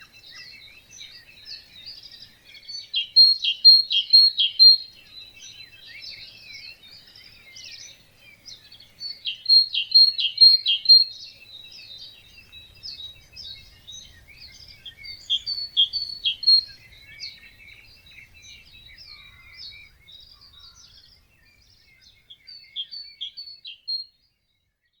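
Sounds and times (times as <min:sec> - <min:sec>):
birds chirping and whistling: 0:00.0 - 0:24.1.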